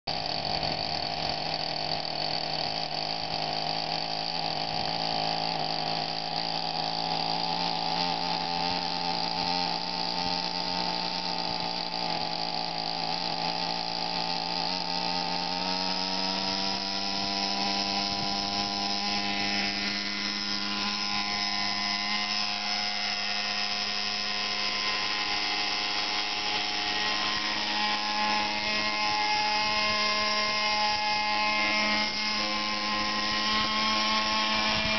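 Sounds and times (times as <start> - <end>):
rc helicopter engine running: 0.0 - 34.9.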